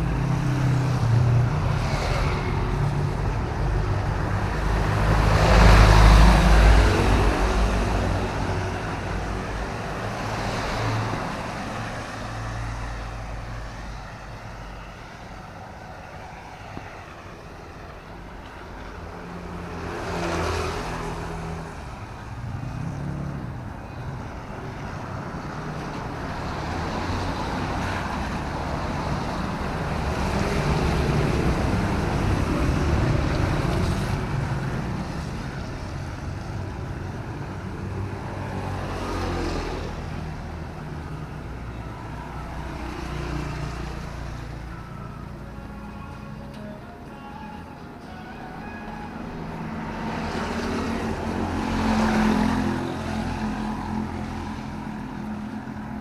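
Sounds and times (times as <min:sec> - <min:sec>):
vehicles passing on wet road: 0:00.0 - 0:56.0.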